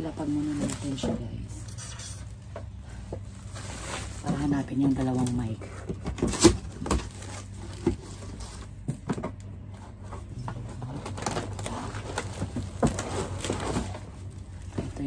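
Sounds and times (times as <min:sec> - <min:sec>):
low steady hum: 0:00.0 - 0:15.0
cardboard box rustling and knocking: 0:02.6 - 0:15.0.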